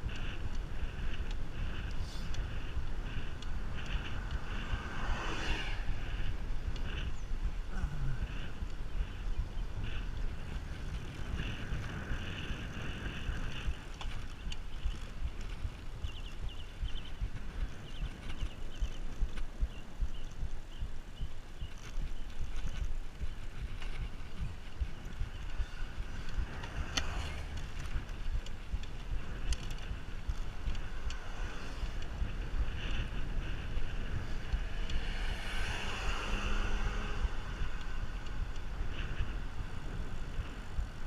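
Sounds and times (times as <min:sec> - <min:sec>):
wind rumbling on microphone: 0:00.0 - 0:41.0.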